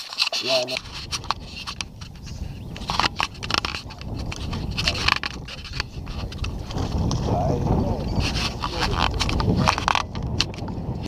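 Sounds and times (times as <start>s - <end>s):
wind rumble on microphone: 0.5s - 11.0s.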